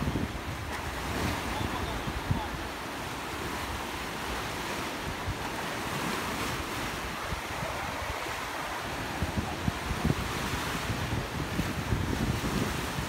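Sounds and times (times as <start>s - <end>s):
small waves breaking on shore: 0.0s - 13.0s
wind rumbling on microphone: 0.0s - 13.0s.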